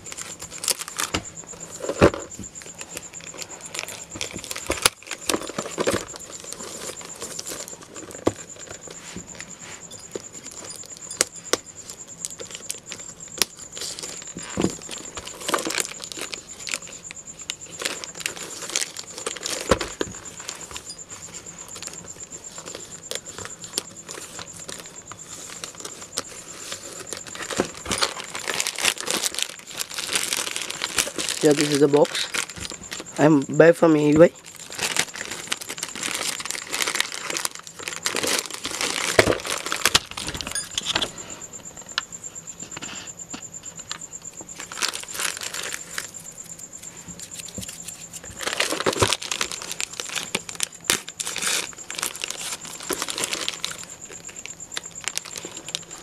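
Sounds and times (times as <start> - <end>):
plastic mailer crinkling and tearing: 0.0 - 8.9, 10.1 - 33.2, 34.2 - 41.0, 44.6 - 56.0.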